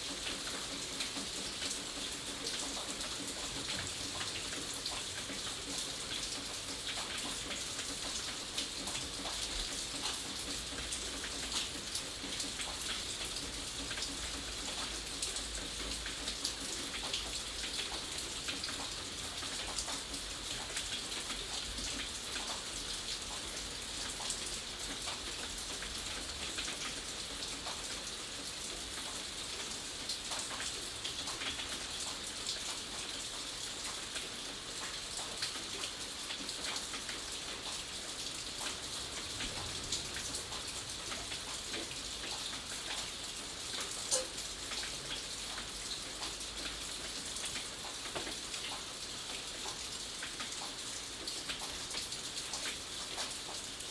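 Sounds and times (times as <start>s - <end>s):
raindrops ticking on a surface: 0.0s - 53.9s
steady rainfall: 0.0s - 53.9s.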